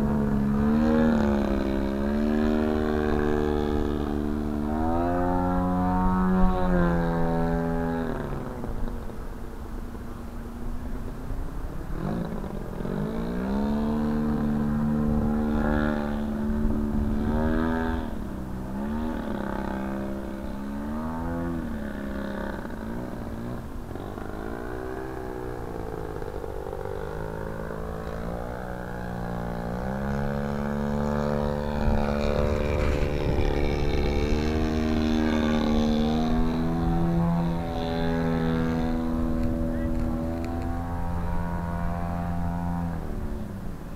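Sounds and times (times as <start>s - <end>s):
model airplane engine and propeller: 0.0s - 43.9s.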